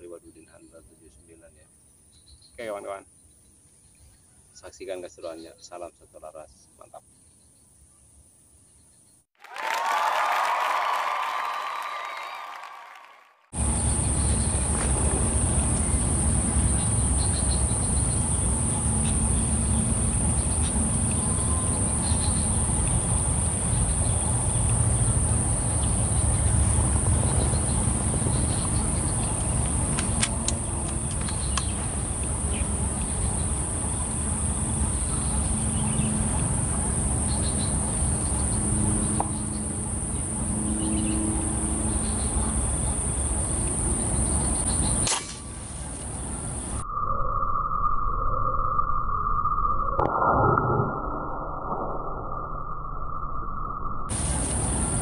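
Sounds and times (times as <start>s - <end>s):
insects droning: 0.0s - 8.9s, 13.6s - 49.9s, 54.1s - 55.0s.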